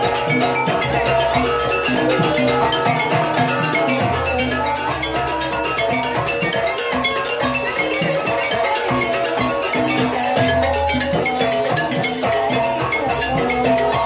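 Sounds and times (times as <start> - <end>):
drums: 0.0 - 14.0
gamelan metal bars playing: 0.0 - 14.0.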